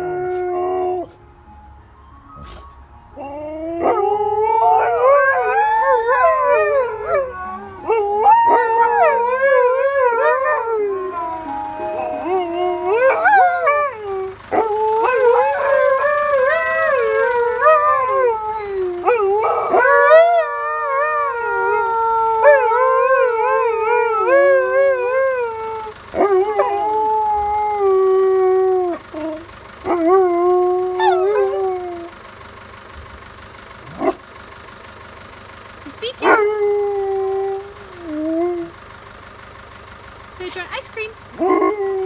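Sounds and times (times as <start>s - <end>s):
dogs howling: 0.0s - 1.2s, 3.2s - 32.2s, 33.8s - 34.2s, 36.1s - 38.8s, 41.4s - 42.0s.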